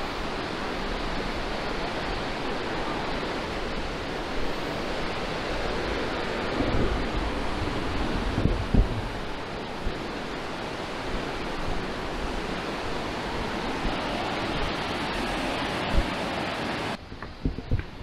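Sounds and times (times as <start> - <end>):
river rapids rushing: 0.0 - 17.0
wind rumble on microphone: 0.0 - 18.0.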